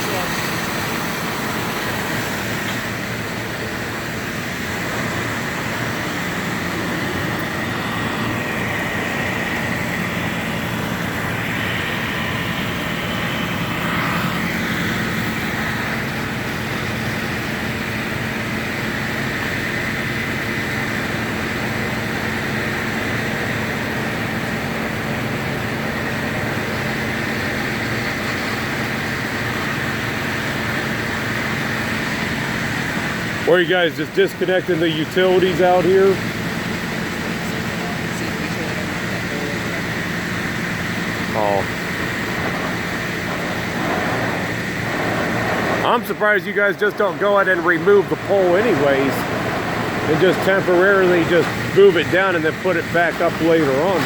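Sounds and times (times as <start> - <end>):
high machine whine: 0.0 - 54.0
machinery engine drone: 0.0 - 54.0.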